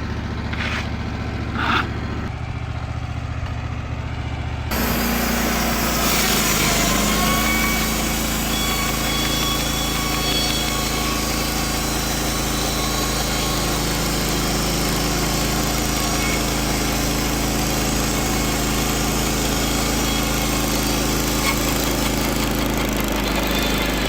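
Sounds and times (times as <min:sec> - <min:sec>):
sawmill engine running: 0:00.0 - 0:24.0
band blade cutting log: 0:00.4 - 0:02.3, 0:04.7 - 0:24.0.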